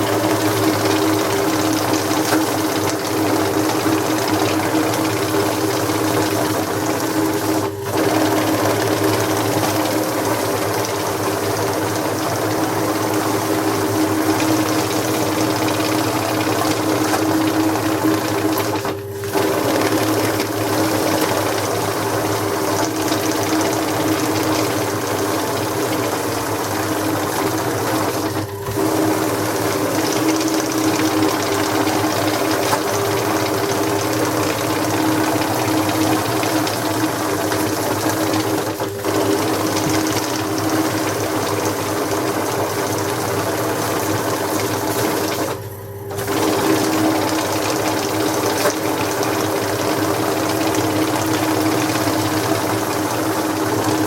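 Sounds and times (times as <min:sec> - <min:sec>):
banknote counting machine: 0:00.0 - 0:54.0.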